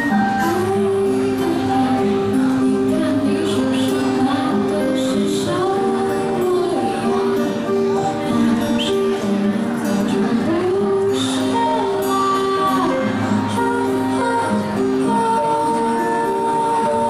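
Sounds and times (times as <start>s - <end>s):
acoustic guitar: 0.0s - 17.0s
keyboard: 0.0s - 17.0s
woman singing: 0.0s - 17.0s.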